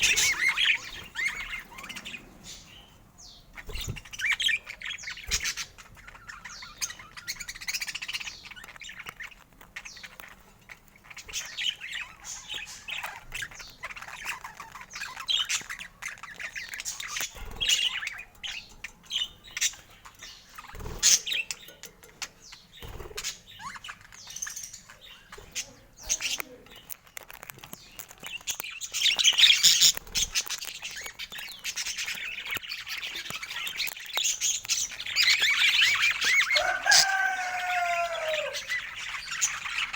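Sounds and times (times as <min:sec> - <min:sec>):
budgerigars chattering: 0:00.0 - 0:27.0, 0:28.3 - 0:39.9.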